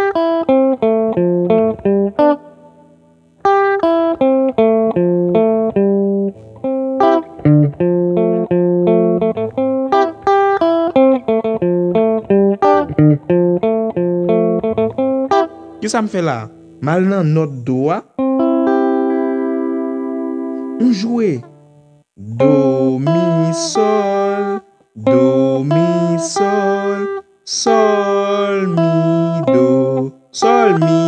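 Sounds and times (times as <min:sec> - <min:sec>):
clean electric guitar picking: 0:00.0 - 0:31.0.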